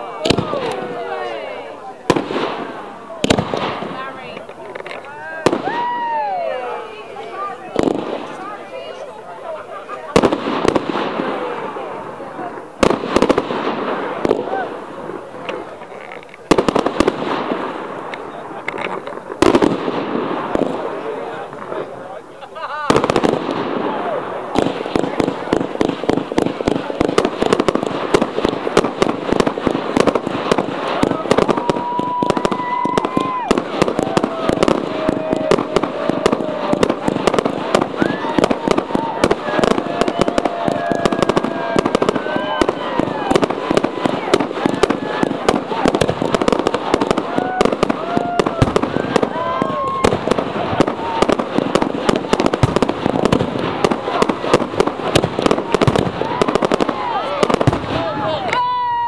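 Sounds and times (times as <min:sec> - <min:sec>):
fireworks bangs: 0:00.0 - 0:59.0
fireworks crackle: 0:00.0 - 0:59.0.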